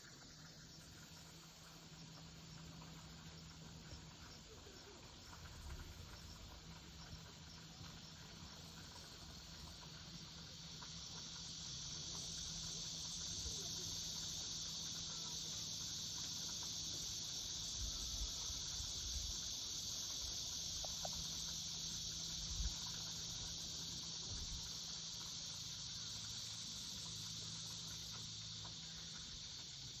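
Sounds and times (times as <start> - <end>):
cicadas and insects chorus: 0.0 - 30.0.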